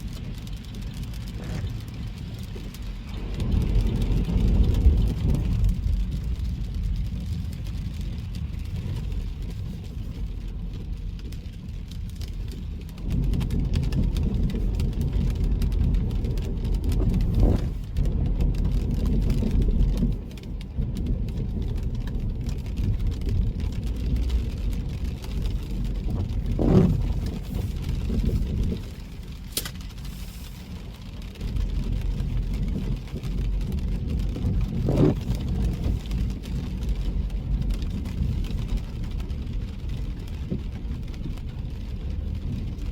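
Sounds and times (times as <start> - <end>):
road and tyre rumble: 0.0 - 42.9.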